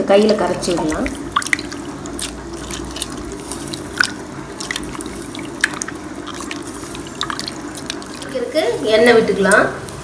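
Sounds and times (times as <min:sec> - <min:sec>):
hand squelching wet food: 0:00.1 - 0:08.6
splashy drips: 0:00.1 - 0:08.6.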